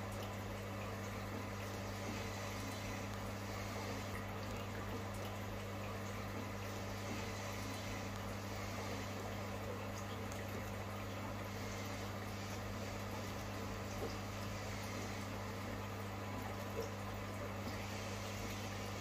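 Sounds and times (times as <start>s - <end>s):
aquarium pump humming: 0.0s - 19.0s.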